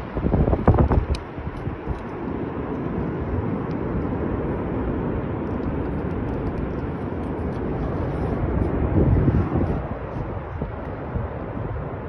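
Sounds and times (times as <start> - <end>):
fire low rushing: 0.0 - 12.0
fire crackles: 0.2 - 12.0.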